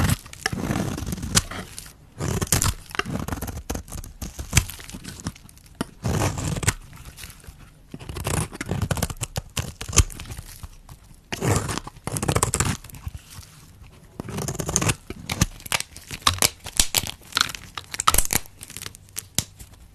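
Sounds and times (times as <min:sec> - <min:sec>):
knife cutting dry soap: 0:00.0 - 0:13.6, 0:14.2 - 0:19.6.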